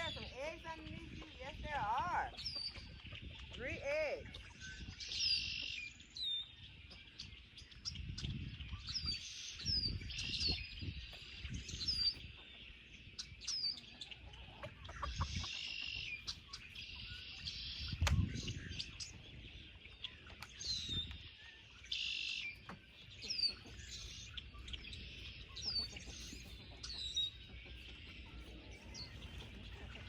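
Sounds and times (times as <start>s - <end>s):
chickens clucking: 0.0s - 30.0s
small birds chirping: 0.0s - 30.0s.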